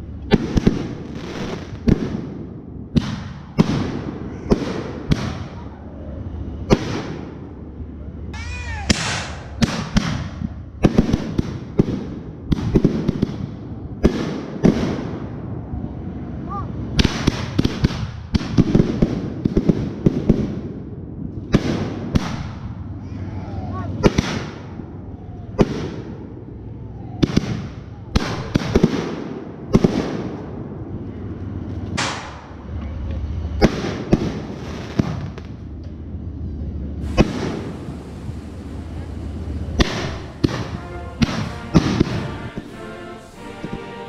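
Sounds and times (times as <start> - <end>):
fireworks bangs: 0.0 - 16.2, 16.8 - 22.9, 23.8 - 44.0
whistling firework: 0.0 - 35.7, 36.4 - 44.0.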